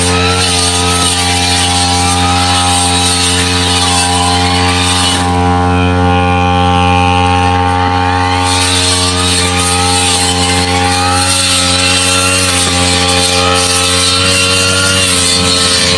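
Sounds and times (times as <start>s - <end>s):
brush cutter engine cutting grass: 0.0s - 15.9s.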